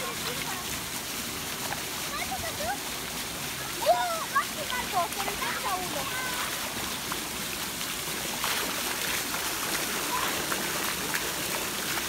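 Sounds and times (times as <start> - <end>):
pool water splashing: 0.0 - 12.0
steady water noise: 0.0 - 12.0.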